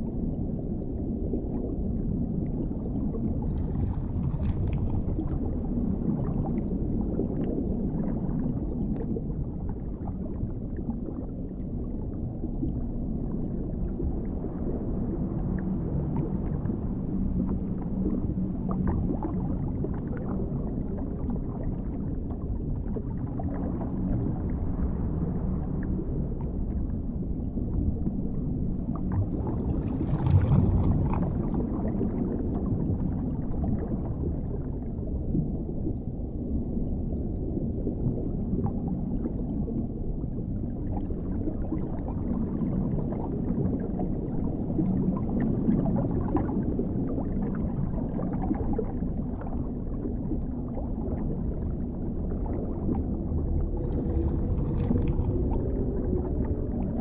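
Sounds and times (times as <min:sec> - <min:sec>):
deep underwater rumble: 0:00.0 - 0:57.0.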